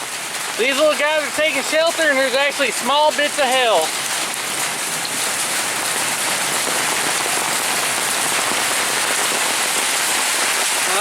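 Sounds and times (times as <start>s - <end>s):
hail falling: 0.0s - 11.0s
rain falling steadily: 0.0s - 11.0s.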